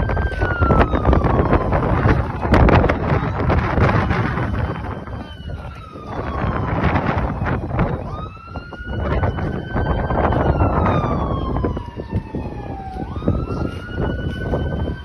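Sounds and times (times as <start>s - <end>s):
siren wailing: 0.0s - 15.0s
wind rumble on microphone: 0.0s - 15.0s.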